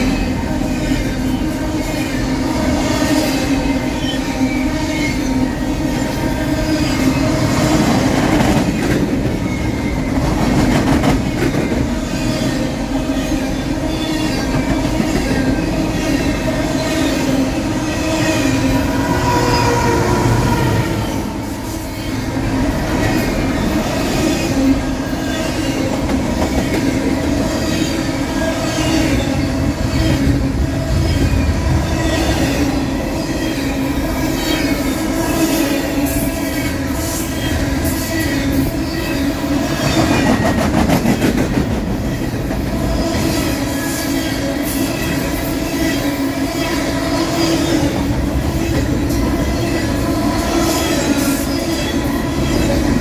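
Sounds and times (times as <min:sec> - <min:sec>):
train wheels rumbling on rails: 0:00.0 - 0:53.0
train wheels squealing: 0:00.0 - 0:53.0.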